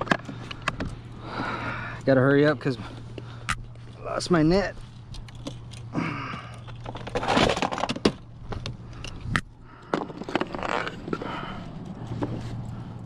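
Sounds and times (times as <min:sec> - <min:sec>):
gear rustling: 0:00.0 - 0:13.0.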